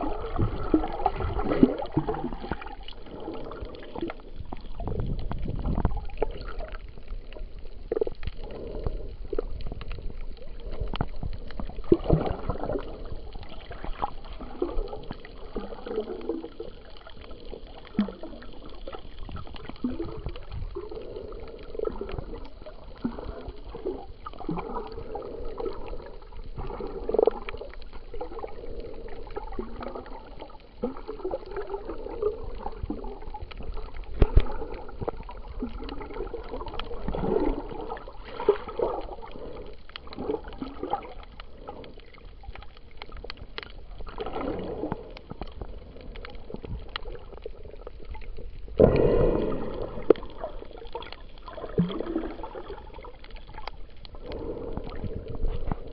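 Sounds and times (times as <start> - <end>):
underwater gurgling and sloshing: 0.0 - 55.9
sharp underwater clicks: 1.1 - 55.9.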